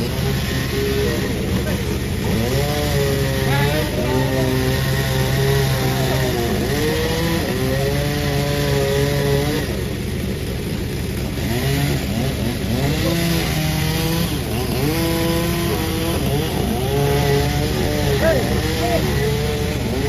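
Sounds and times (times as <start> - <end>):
chainsaw cutting log: 0.0 - 20.0.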